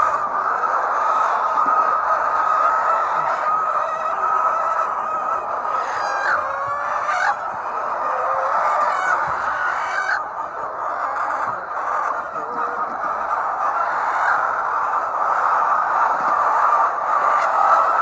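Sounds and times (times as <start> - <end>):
hens clucking: 0.0 - 18.0
sharp hen calls: 0.0 - 18.0.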